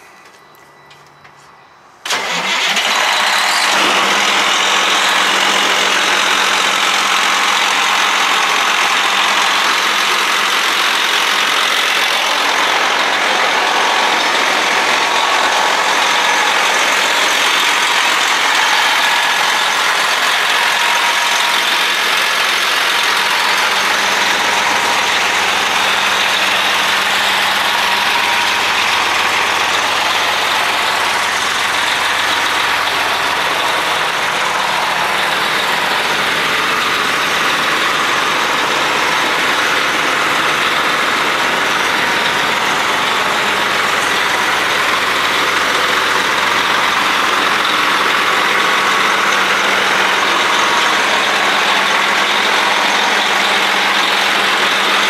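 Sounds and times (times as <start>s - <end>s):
diesel truck engine starting and idling: 0.0s - 55.0s.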